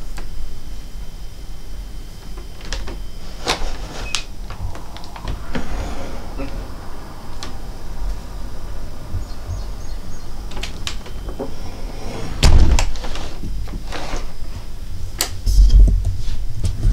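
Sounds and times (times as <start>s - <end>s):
steady low rumble: 1.2s - 13.7s, 14.6s - 16.9s.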